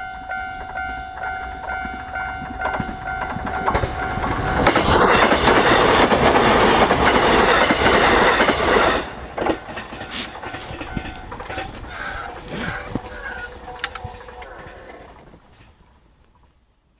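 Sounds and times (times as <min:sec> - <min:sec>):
train wheels clattering on rails: 0:00.0 - 0:15.8.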